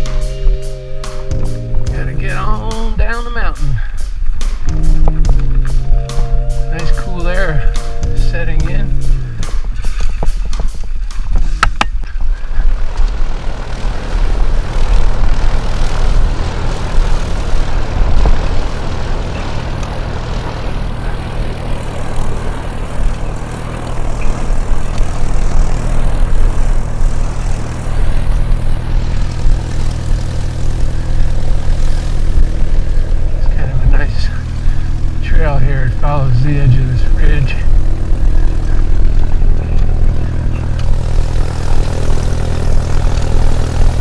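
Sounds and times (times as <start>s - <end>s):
low steady hum: 0.0s - 4.0s, 4.7s - 10.2s, 13.5s - 44.0s.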